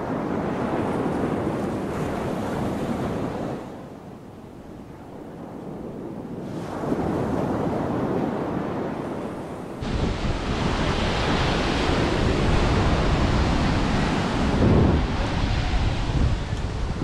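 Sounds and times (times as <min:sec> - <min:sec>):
ocean surf on beach: 0:00.0 - 0:17.0
wind buffeting microphone: 0:00.0 - 0:17.0.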